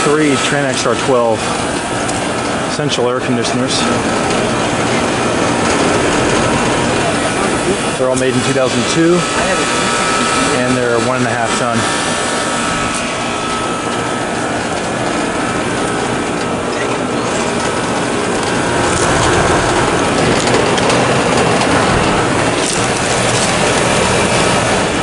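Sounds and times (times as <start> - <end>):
air conditioner units running: 0.0 - 25.0.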